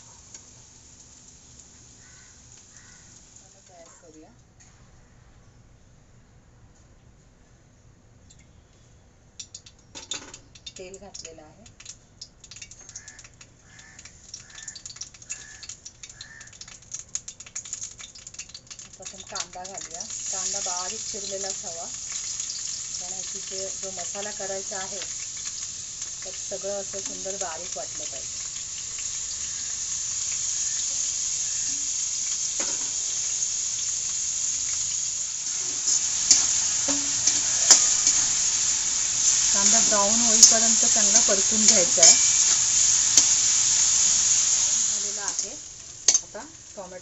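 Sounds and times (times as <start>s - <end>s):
hot oil crackling and spitting: 0.0s - 4.1s, 9.4s - 47.0s.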